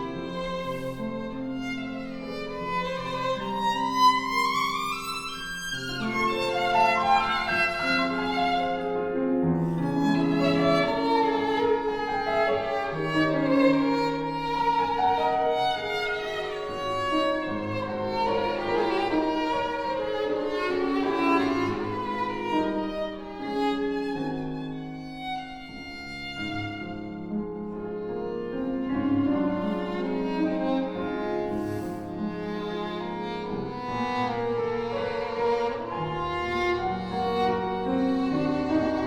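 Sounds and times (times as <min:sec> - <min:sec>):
cello: 0:00.0 - 0:39.0
piano: 0:00.0 - 0:39.0
violin melody: 0:00.0 - 0:39.0.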